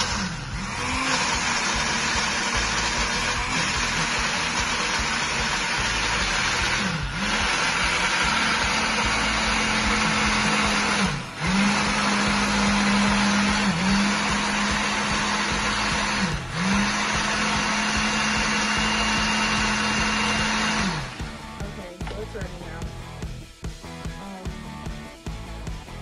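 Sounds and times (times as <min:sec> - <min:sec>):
blender motor running: 0:00.0 - 0:23.2.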